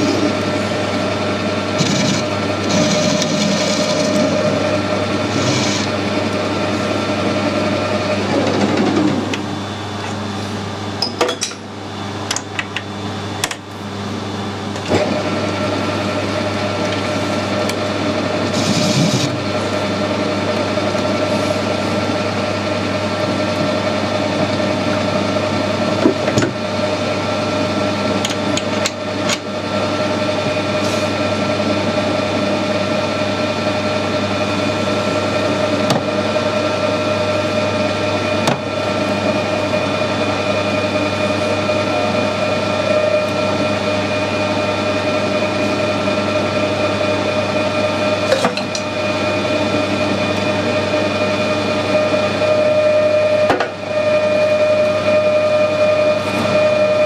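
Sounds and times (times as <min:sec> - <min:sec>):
metal lathe humming and whining: 0:00.0 - 0:57.0.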